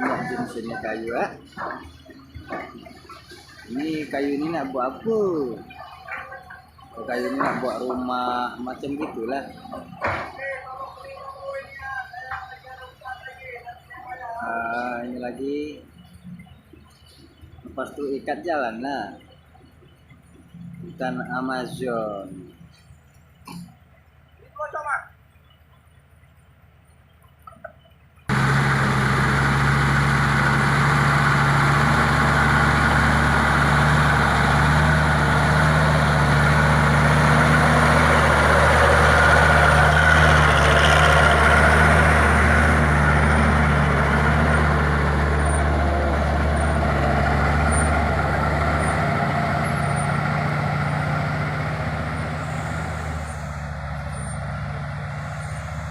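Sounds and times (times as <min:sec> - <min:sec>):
heavy diesel engine running: 0:00.0 - 0:18.2, 0:28.3 - 0:55.9.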